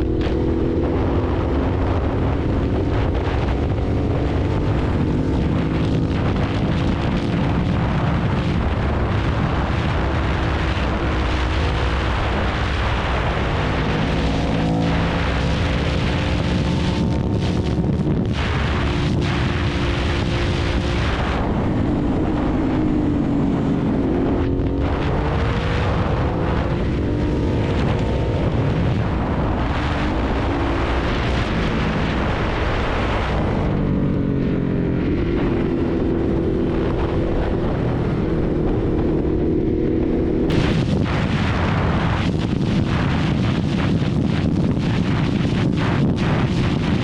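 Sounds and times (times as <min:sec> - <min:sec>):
motorcycle engine revving: 0:00.0 - 0:47.0
wind rushing over microphone: 0:00.0 - 0:47.0.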